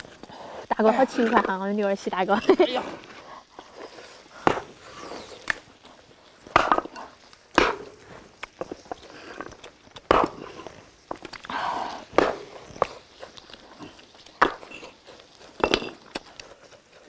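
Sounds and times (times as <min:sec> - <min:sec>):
chewing and slurping: 0:03.0 - 0:17.0.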